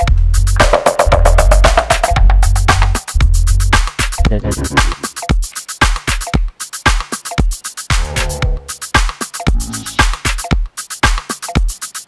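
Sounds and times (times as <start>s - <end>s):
fast percussive beat with heavy bass: 0.0s - 12.0s.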